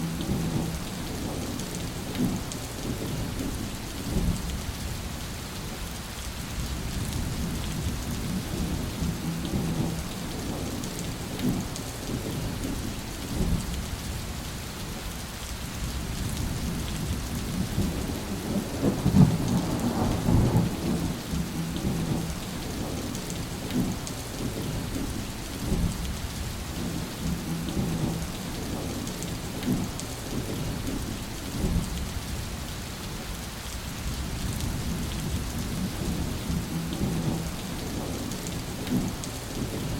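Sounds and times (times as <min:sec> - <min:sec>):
low rolling thunder: 0:00.0 - 0:04.6, 0:06.6 - 0:13.8, 0:15.8 - 0:32.2, 0:34.0 - 0:39.9
steady rain: 0:00.0 - 0:39.9.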